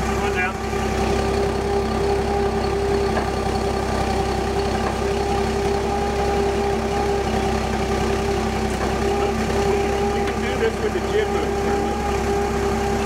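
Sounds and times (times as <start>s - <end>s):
forklift engine idling: 0.0s - 13.0s.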